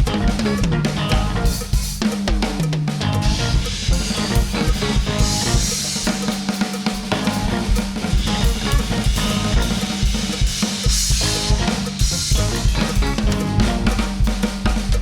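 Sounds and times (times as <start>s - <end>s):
drum kit solo: 0.0s - 15.0s.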